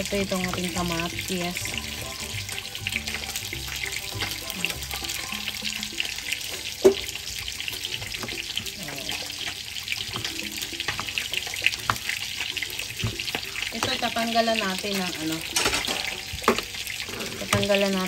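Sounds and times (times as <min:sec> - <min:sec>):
fish frying in hot oil: 0:00.0 - 0:18.0.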